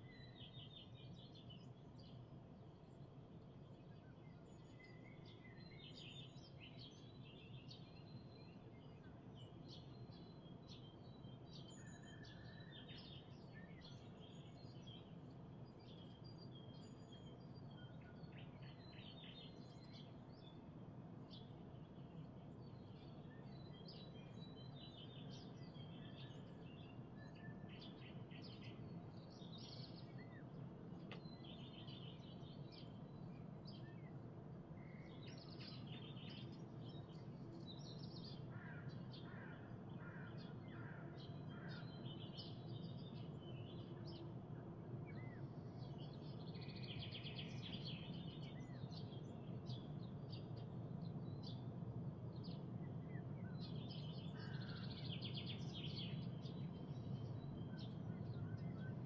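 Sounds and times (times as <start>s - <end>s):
low steady background hum: 0.0s - 59.0s
songbirds chirping: 0.0s - 59.0s.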